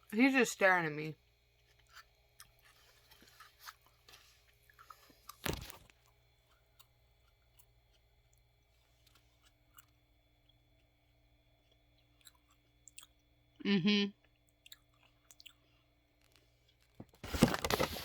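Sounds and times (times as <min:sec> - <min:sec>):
person chewing raw celery: 0:01.4 - 0:17.0.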